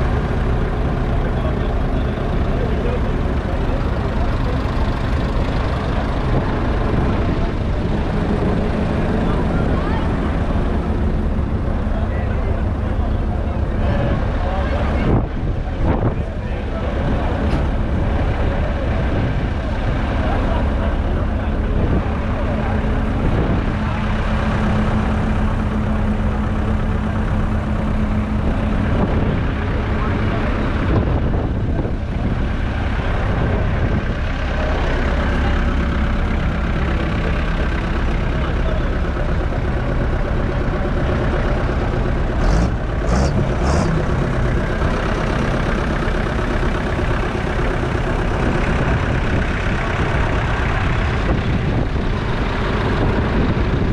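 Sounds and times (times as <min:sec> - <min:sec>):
diesel tractor engine idling: 0:00.0 - 0:53.9.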